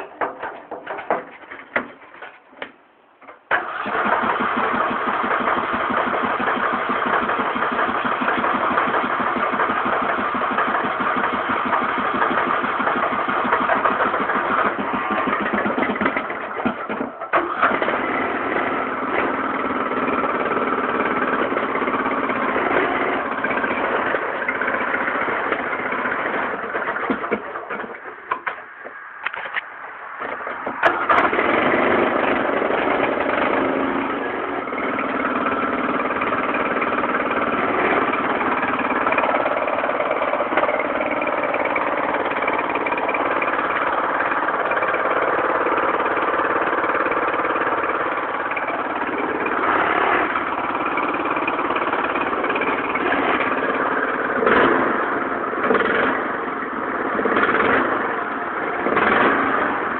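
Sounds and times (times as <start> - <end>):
small engine starting and running: 3.5 - 59.9.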